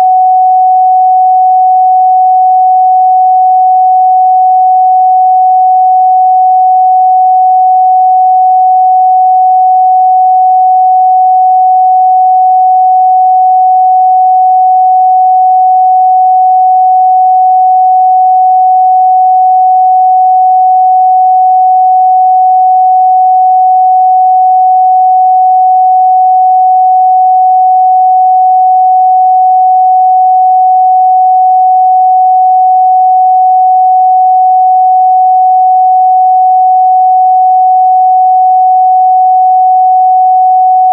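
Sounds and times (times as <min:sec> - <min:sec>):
sine-wave test tone: 0:00.0 - 0:40.9.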